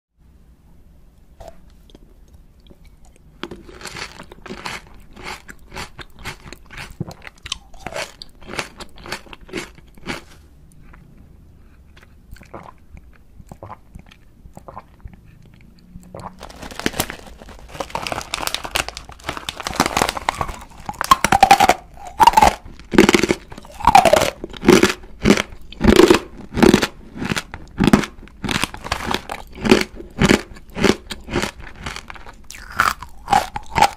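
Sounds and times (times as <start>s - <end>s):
crisp crunching of food: 2.6s - 11.0s, 11.9s - 33.9s.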